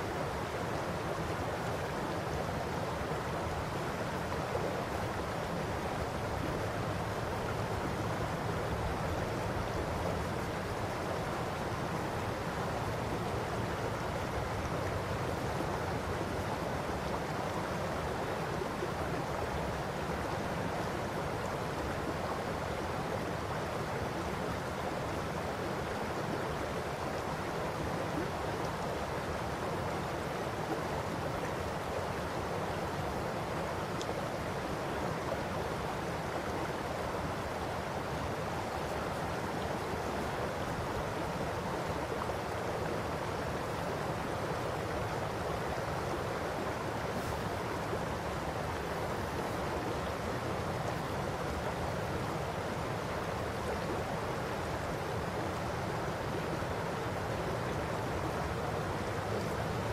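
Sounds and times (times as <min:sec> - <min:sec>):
river babbling over gravel: 0:00.1 - 0:59.9.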